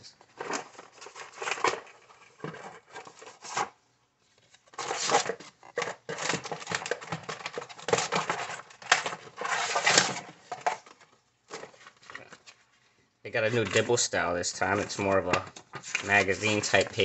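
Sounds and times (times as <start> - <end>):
cardboard and packaging rustling: 0.0 - 17.0.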